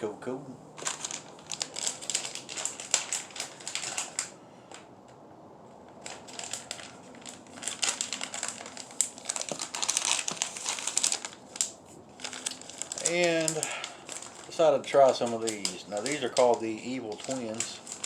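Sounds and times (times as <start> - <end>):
plastic packaging rustling: 0.7 - 4.9, 5.6 - 18.0.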